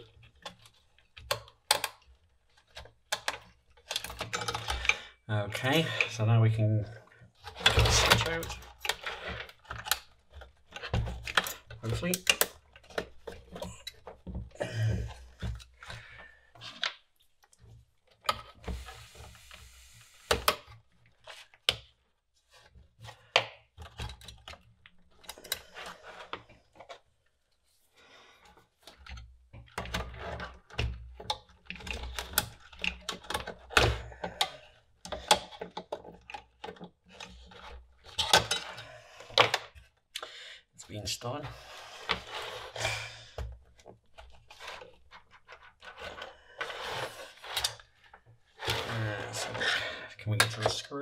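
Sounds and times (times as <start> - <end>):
hands and tools clicking and knocking: 0.0 - 6.2, 6.9 - 19.6, 20.2 - 27.4, 28.4 - 40.4, 41.3 - 51.0.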